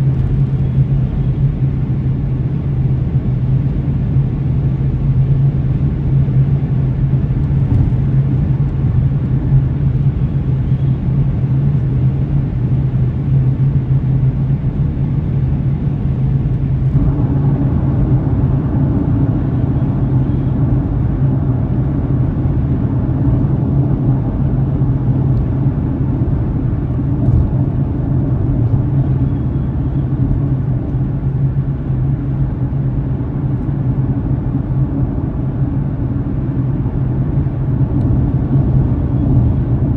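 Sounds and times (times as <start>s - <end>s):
car engine and tyre noise: 0.0s - 39.9s
deep steady hum: 0.0s - 39.9s.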